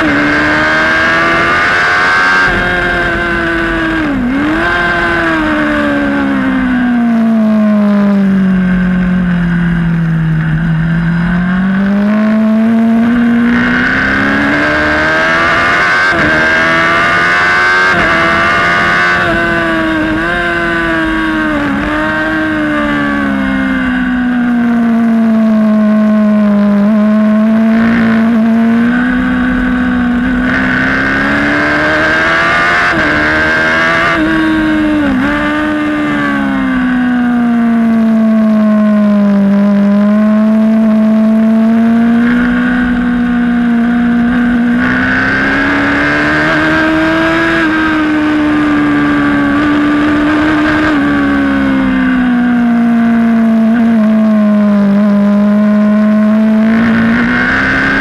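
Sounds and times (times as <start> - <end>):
race motorcycle engine: 0.0 - 58.0.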